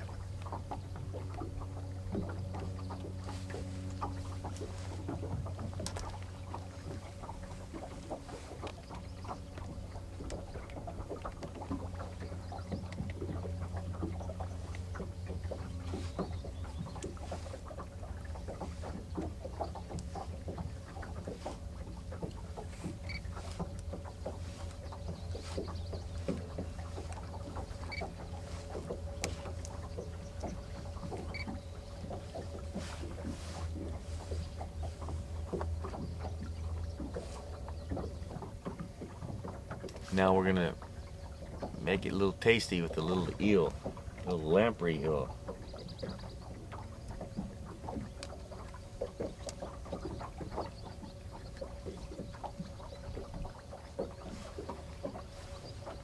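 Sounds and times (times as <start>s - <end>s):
boat low hum: 0.0s - 56.0s
soft squishes and small clicks: 0.4s - 17.8s, 18.5s - 41.8s, 45.1s - 56.0s.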